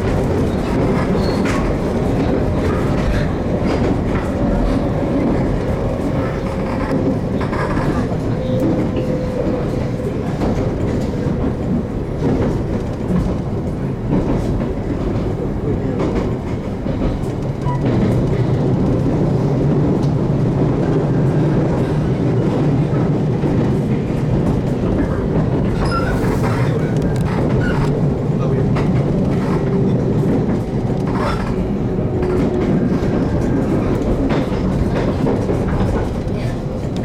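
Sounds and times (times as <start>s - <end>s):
wheels clicking over rail joints: 0.0s - 19.1s, 23.4s - 37.0s
electric train rumbling: 0.0s - 37.0s.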